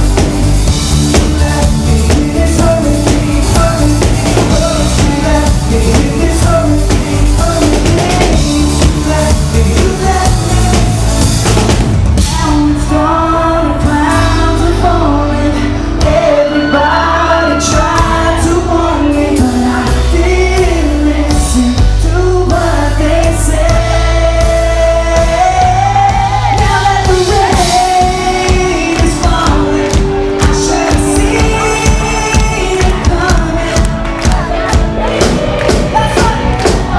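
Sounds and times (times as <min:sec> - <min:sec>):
lead vocal singing: 0:00.0 - 0:36.9
pop-rock band playing: 0:00.0 - 0:36.9.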